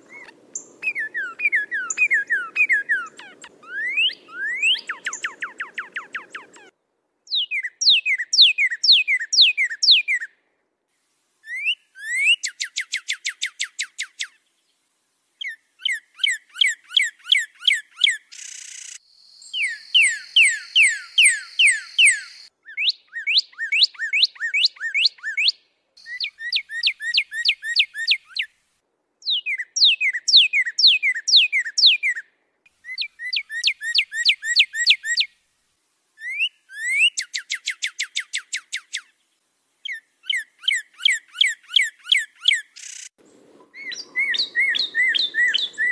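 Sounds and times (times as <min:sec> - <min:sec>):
songbird whistling song: 0:00.0 - 0:10.3, 0:11.4 - 0:14.8, 0:15.4 - 0:28.5, 0:29.2 - 0:35.4, 0:36.2 - 0:39.2, 0:39.8 - 0:45.9.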